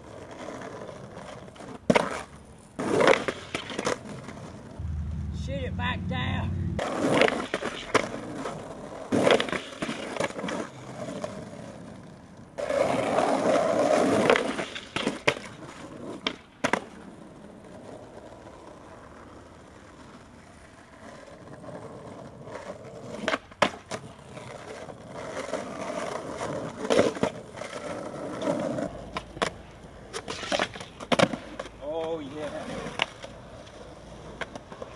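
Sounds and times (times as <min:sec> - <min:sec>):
skateboard clacking on pavement: 0:00.0 - 0:04.8, 0:06.8 - 0:34.9
skateboard wheels rolling on asphalt: 0:00.0 - 0:05.5, 0:06.3 - 0:34.9.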